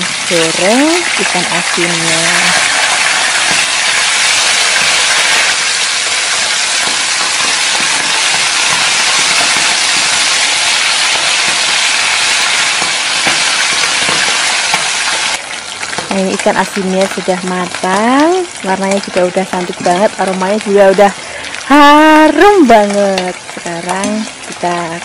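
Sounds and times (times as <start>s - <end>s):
fish sizzling in hot oil: 0.0s - 25.0s.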